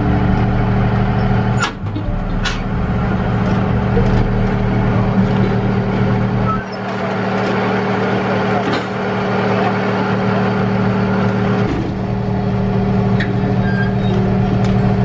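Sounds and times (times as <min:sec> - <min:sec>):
ferry engine running: 0:00.0 - 0:15.0.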